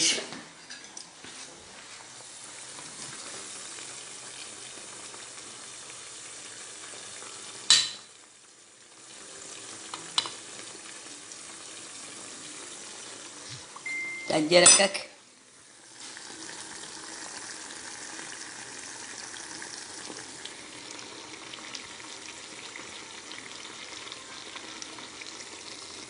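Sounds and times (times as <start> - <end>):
sausage sizzling in a pot: 0.0 - 26.0.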